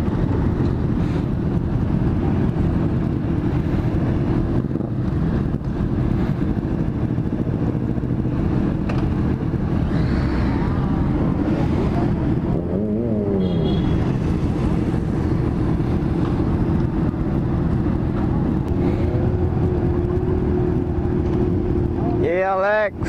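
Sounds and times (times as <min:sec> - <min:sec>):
wind on microphone: 0:00.0 - 0:22.2
motorcycle engines revving: 0:00.0 - 0:23.0
motorcycle engines rumbling: 0:00.0 - 0:23.0.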